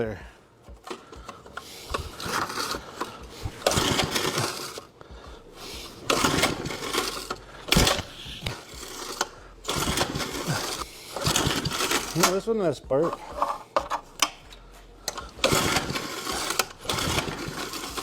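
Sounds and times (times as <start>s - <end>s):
recoil starter pulls: 0.7s - 18.0s
small engine cranking: 0.7s - 18.0s.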